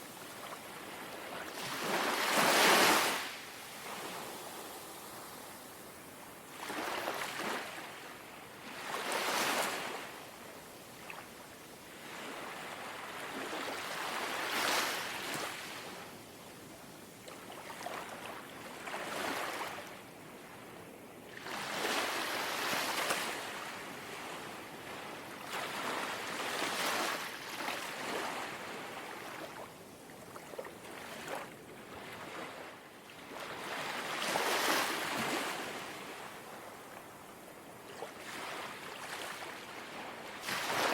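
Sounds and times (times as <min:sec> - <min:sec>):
gentle waves lapping at shore: 0:00.0 - 0:40.9.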